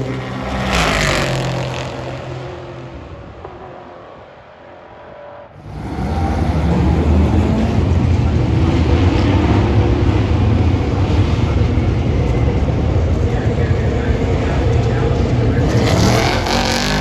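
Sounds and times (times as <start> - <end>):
racing car engines at full throttle: 0.0 - 17.0.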